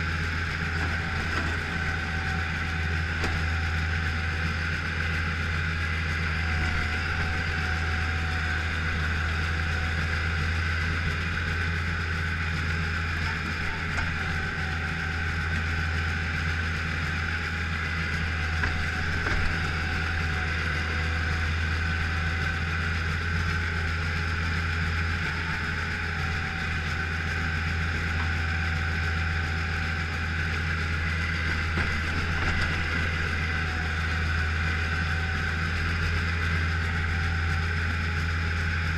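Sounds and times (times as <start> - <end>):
loader engine drone with whine: 0.0 - 38.9.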